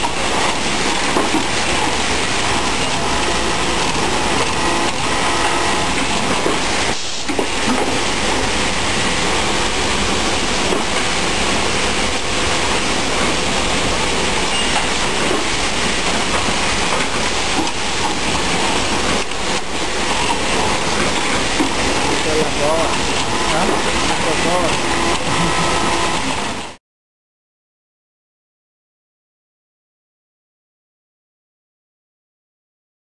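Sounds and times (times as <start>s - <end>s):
industrial sewing machinery running: 0.0s - 26.8s.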